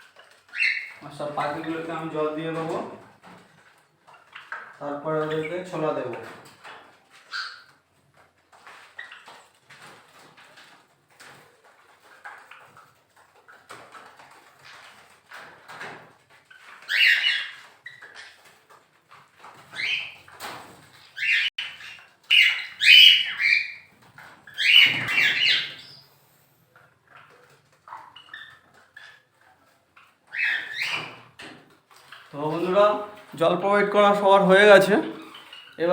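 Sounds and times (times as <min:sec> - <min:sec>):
cage birds chirping: 0:00.0 - 0:35.9.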